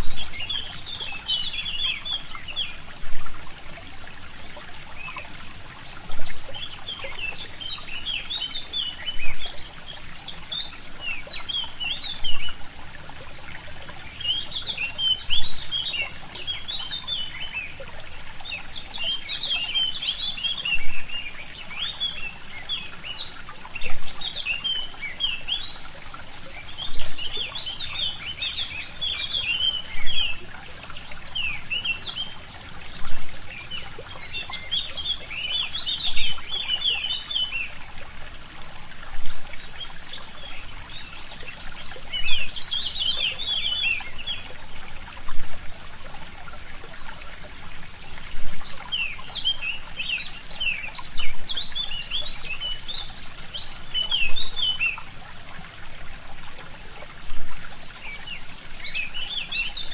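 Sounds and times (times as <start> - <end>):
songbirds chirping: 0.0 - 59.9
stream trickling: 0.0 - 59.9.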